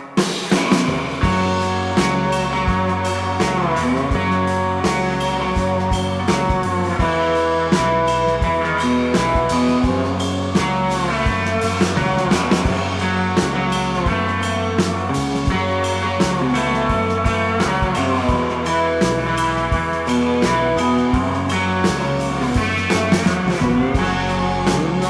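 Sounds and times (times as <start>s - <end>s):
bass: 0.0s - 25.0s
electric guitar: 0.0s - 25.0s
steady drum beat: 0.0s - 25.0s.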